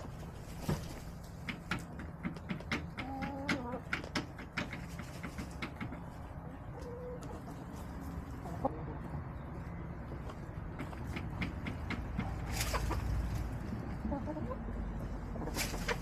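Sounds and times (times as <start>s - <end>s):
hens clucking softly: 0.1s - 16.0s.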